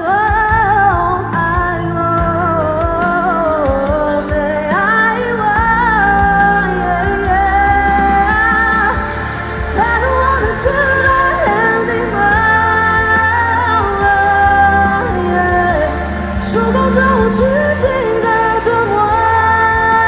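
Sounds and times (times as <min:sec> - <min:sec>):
pop backing track with bass and drums: 0:00.0 - 0:20.0
woman singing into a microphone: 0:00.0 - 0:20.0.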